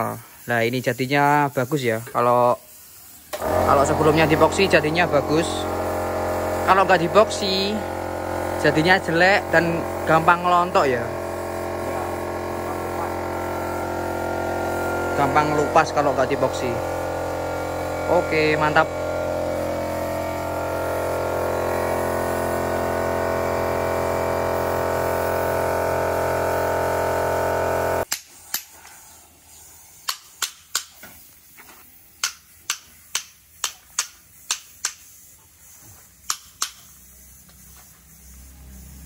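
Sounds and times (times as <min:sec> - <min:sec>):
air compressor humming: 0:00.0 - 0:39.0.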